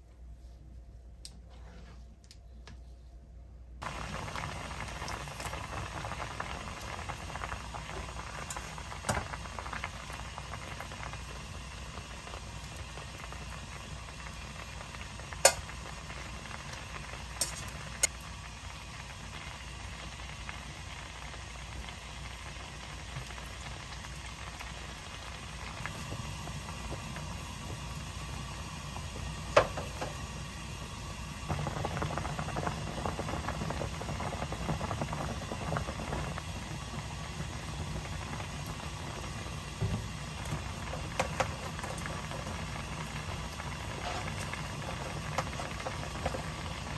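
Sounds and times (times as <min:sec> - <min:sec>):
stew bubbling: 0:03.8 - 0:46.9.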